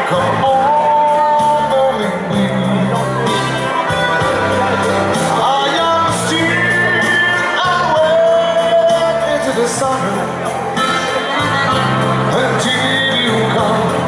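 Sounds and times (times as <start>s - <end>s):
accordion: 0.0s - 14.0s
bass line and steady beat: 0.0s - 14.0s
man singing: 0.0s - 14.0s.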